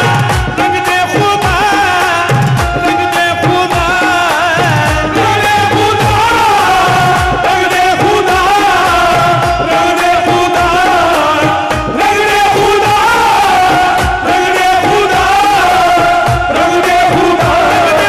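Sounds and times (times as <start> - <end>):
drum beats: 0.0 - 18.0
harmonium and keyboard melody: 0.0 - 18.0
person singing: 0.0 - 18.0.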